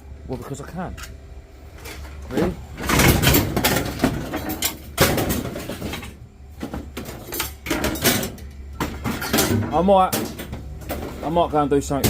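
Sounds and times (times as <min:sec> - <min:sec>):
scrap items clattering: 0:01.8 - 0:11.5.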